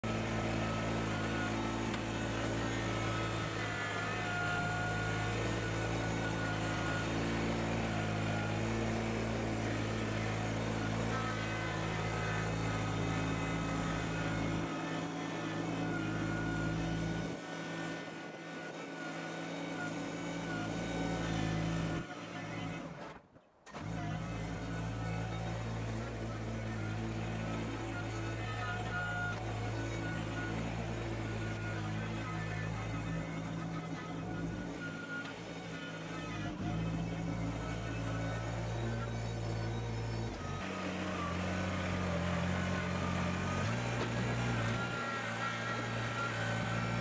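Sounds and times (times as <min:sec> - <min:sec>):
tractor diesel engine running: 0:00.0 - 0:23.1, 0:23.7 - 0:47.0.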